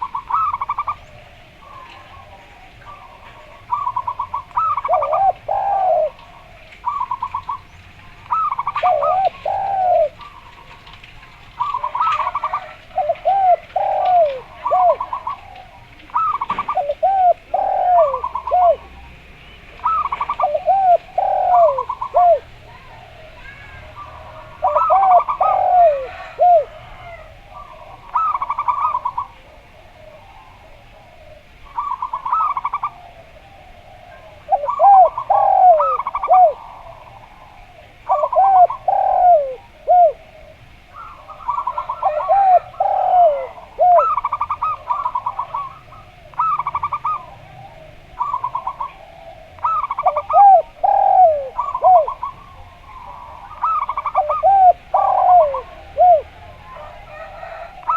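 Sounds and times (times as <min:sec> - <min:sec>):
doves cooing: 0:00.0 - 0:57.9.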